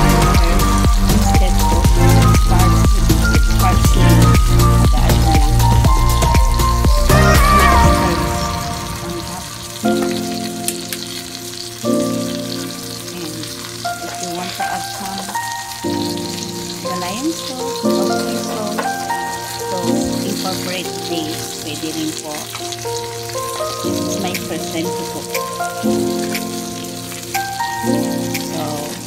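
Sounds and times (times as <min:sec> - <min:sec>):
background music: 0:00.0 - 0:29.0
fish sizzling in a pan: 0:00.0 - 0:29.0.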